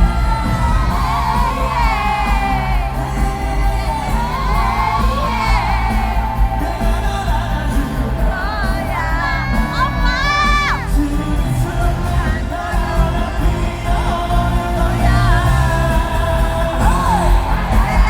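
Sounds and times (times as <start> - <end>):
amplified backing music: 0.0 - 18.0
man singing live: 0.0 - 18.0.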